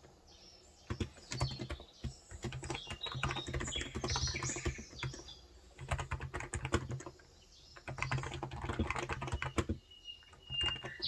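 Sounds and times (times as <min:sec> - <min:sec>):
fast typing on keyboard: 0:00.8 - 0:11.0.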